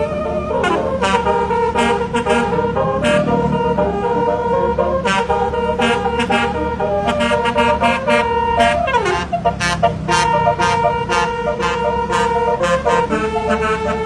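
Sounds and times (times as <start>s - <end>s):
low engine hum: 0.0s - 14.0s
musical bus horn playing tune: 0.0s - 14.0s.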